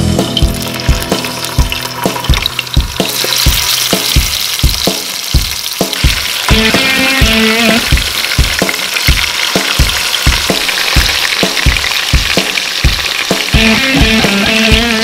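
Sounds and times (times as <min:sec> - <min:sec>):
chicken wings sizzling in oil: 0:00.0 - 0:15.0.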